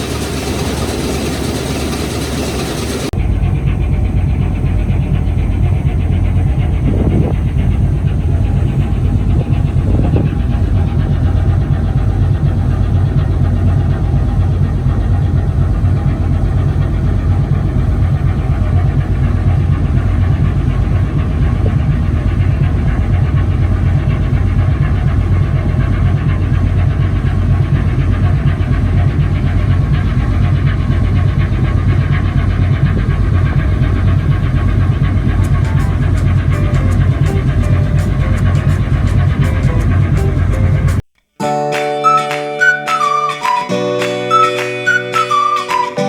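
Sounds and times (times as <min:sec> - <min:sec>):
diesel engine low drone: 0:00.0 - 0:41.1.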